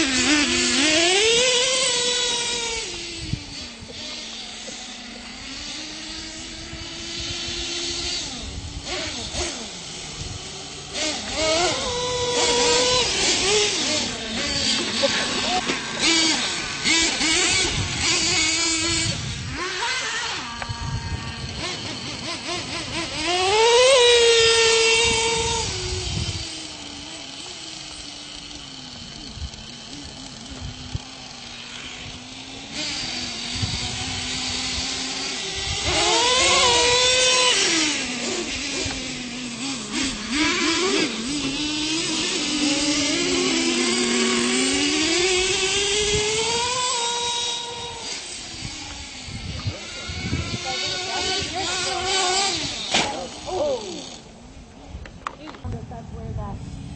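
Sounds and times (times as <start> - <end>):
toy truck motors revving: 0.0 - 55.6.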